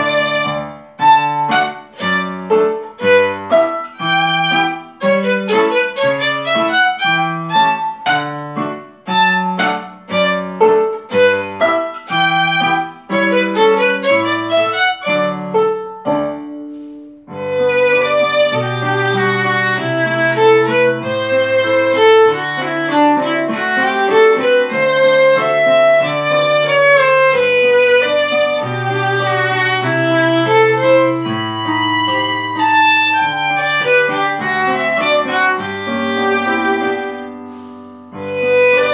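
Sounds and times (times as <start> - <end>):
bowed violin: 0.0 - 38.9.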